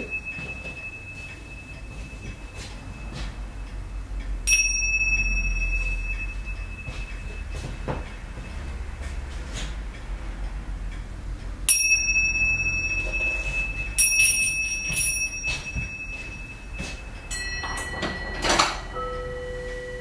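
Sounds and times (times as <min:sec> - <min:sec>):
metal ornament ringing tones: 0:00.0 - 0:09.0, 0:11.7 - 0:20.0.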